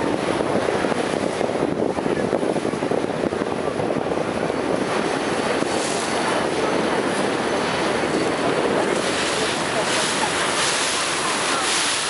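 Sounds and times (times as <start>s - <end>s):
boat running: 0.0s - 12.0s
water along a hull: 0.0s - 12.0s
wind on microphone: 0.0s - 12.0s.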